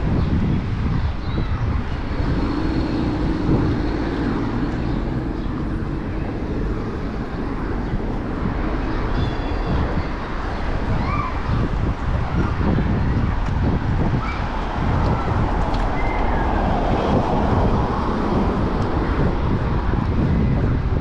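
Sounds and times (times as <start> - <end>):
low rumble of passing vehicles: 0.0 - 21.0
vehicle engine hum: 0.0 - 21.0
wind on microphone: 0.0 - 21.0.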